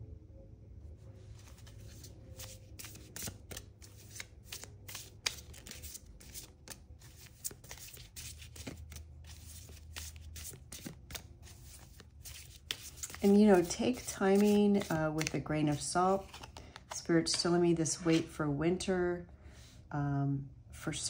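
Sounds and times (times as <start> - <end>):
cards being shuffled: 1.3 - 18.3.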